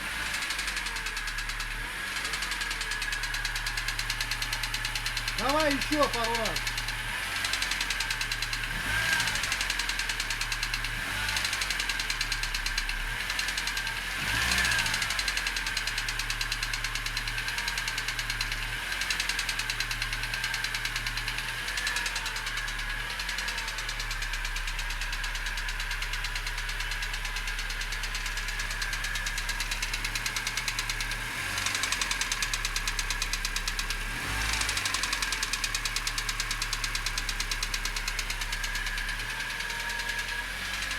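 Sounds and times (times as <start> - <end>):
car engine idling with knock: 0.0 - 40.9
engine revving: 0.0 - 40.9.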